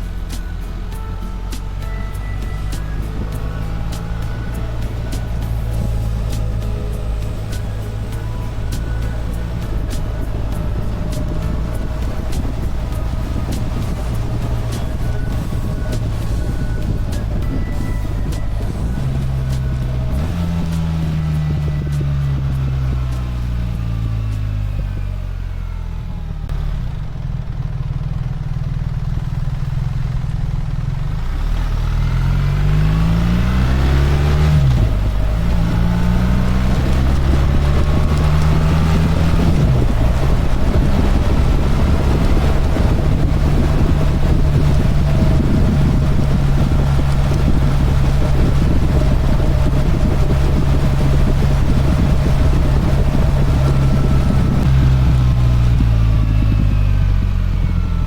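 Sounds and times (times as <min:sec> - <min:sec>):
wind noise: 0:00.0 - 0:27.5, 0:31.0 - 0:58.0
motorcycle engine accelerating: 0:00.0 - 0:58.0.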